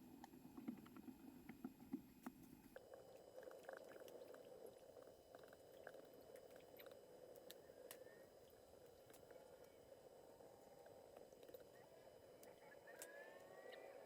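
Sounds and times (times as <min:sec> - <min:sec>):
faint steady hum: 0:00.0 - 0:14.0
small ticks: 0:00.2 - 0:14.0.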